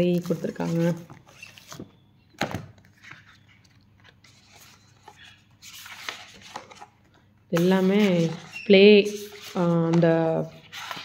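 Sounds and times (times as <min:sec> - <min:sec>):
paper and plastic rustling: 0:00.0 - 0:01.9, 0:02.8 - 0:11.0.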